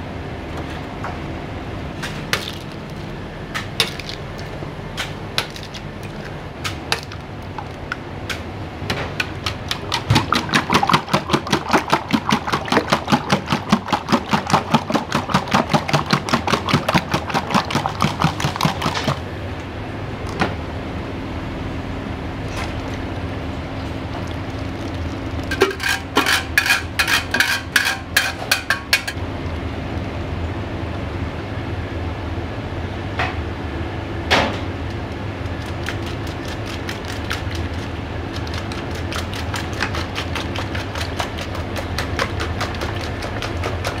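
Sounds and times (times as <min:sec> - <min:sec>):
kitchen hum: 0:00.0 - 0:44.0.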